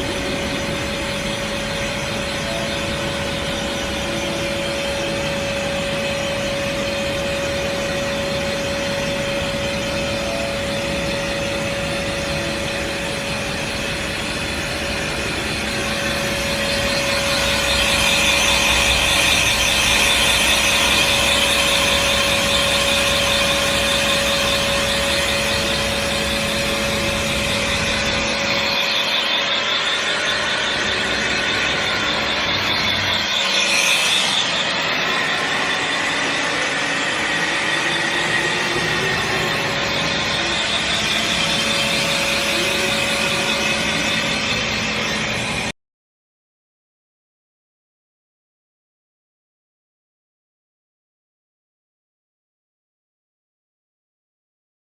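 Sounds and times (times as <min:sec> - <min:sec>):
cnc machine steady tone: 0:00.0 - 0:45.7.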